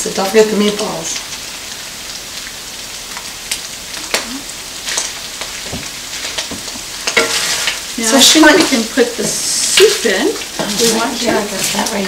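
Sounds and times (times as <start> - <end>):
beef sizzling in a skillet: 0.0 - 12.0.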